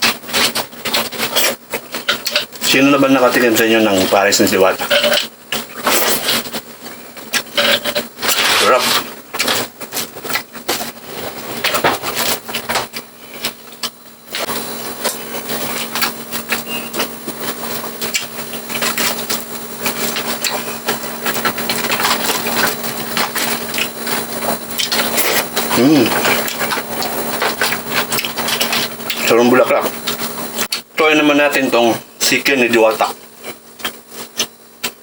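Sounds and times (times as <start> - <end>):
chewing crispy fried pork: 0.0 - 35.0.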